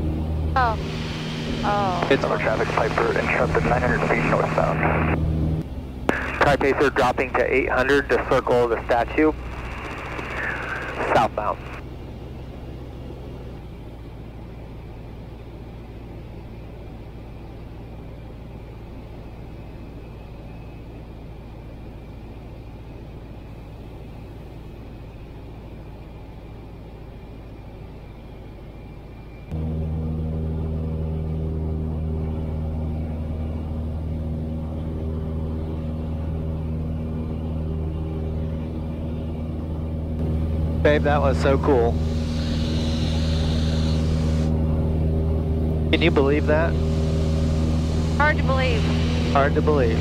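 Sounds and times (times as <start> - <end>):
low steady hum: 0.0 - 50.0
propeller plane engine droning: 0.0 - 50.0.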